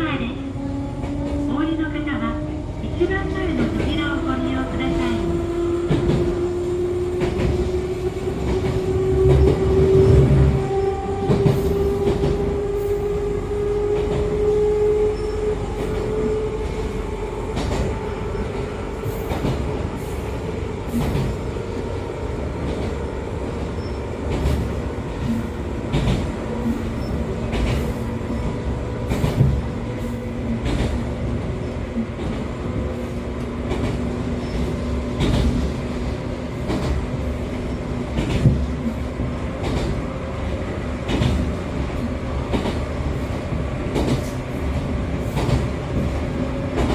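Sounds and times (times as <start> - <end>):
train motor and gear whine: 0.2 - 46.9
rail-joint clicks: 0.9 - 1.4, 3.1 - 13.1, 15.0 - 21.5, 22.6 - 46.9.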